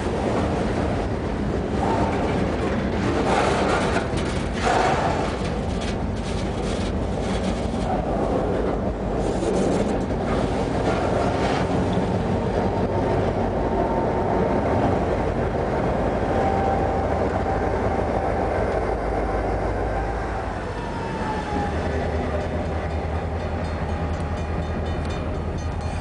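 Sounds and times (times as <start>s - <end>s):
diesel locomotive passing: 0.0s - 26.0s
train wheels rumbling on rail: 0.0s - 26.0s.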